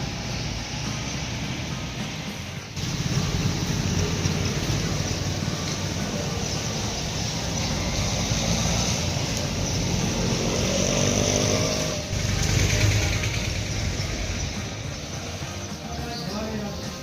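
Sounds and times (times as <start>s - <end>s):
motor vehicle running: 0.0s - 17.0s
street noise hiss: 0.0s - 17.0s.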